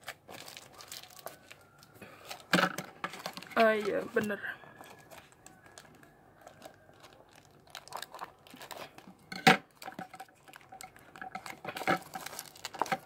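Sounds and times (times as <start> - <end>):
plastic bag crinkling and tearing: 0.0 - 13.0.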